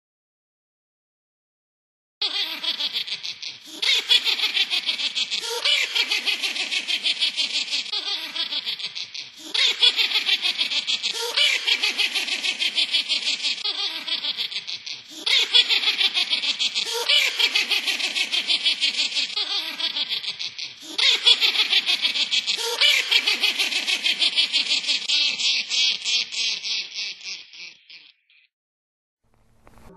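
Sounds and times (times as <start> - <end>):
electronic witch cackling laugh: 2.2 - 28.5.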